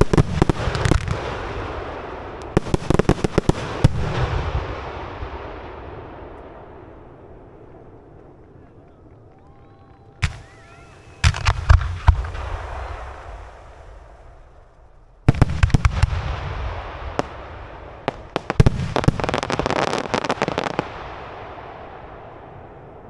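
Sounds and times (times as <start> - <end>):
fireworks bursting with bangs: 0.0 - 9.0, 10.0 - 23.0
fireworks crackle: 0.0 - 9.0, 10.0 - 22.9.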